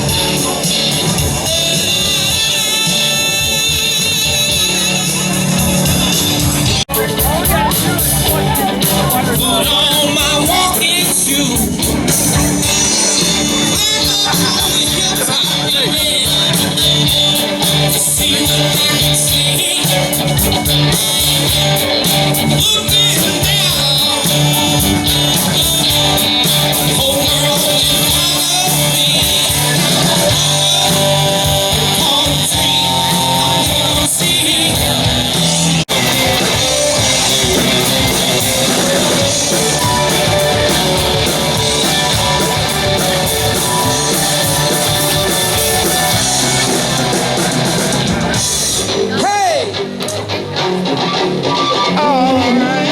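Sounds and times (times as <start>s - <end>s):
person singing: 0.0s - 49.8s, 51.0s - 52.9s
rock guitar: 0.0s - 52.9s.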